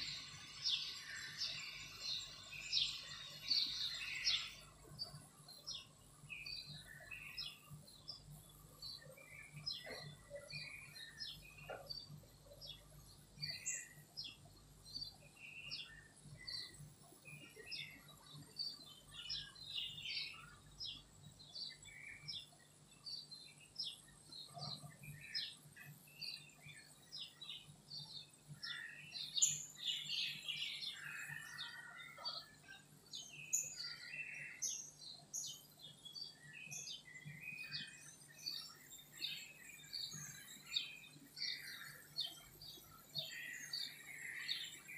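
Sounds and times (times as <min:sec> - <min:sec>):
songbirds chirping and whistling: 0:00.0 - 0:44.9.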